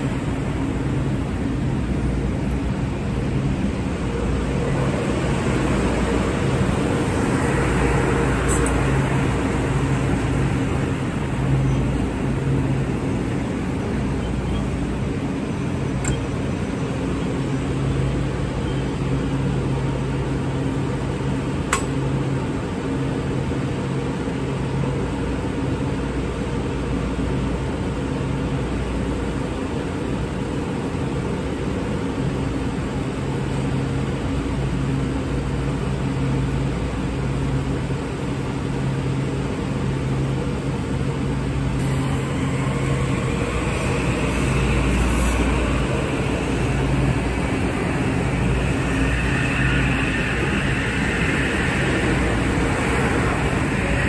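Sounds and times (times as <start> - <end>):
train equipment humming: 0.0 - 54.0.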